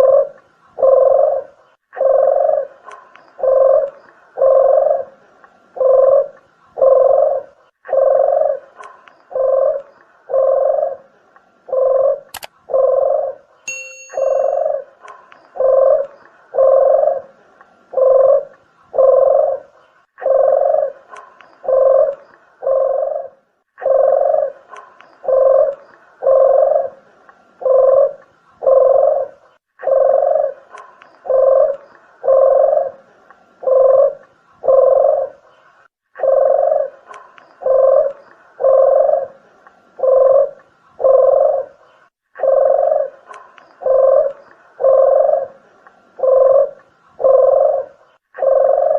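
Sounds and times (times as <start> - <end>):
dove cooing: 0.0 - 35.6, 36.2 - 48.9.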